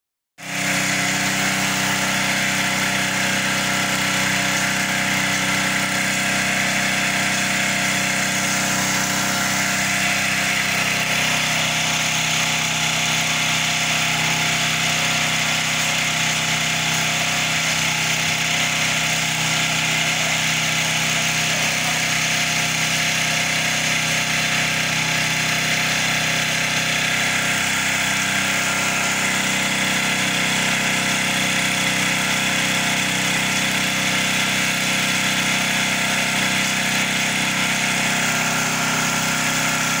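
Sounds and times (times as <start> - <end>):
high-pressure water spray hissing: 0.4 - 40.0
pressure washer engine running: 0.4 - 40.0.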